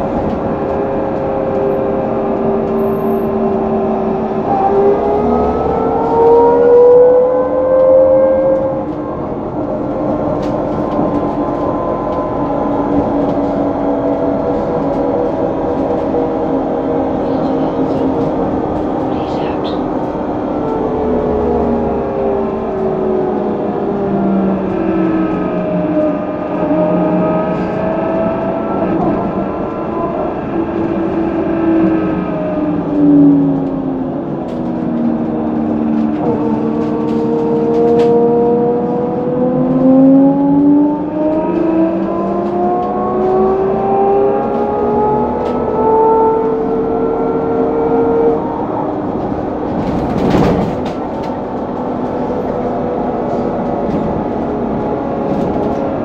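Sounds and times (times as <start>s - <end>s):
trolleybus electric drive whining: 0.0s - 56.0s.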